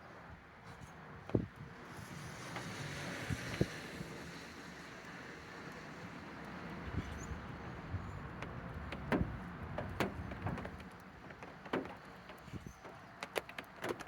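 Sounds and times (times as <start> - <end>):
wind: 0.0 - 14.0
distant traffic: 2.1 - 14.0.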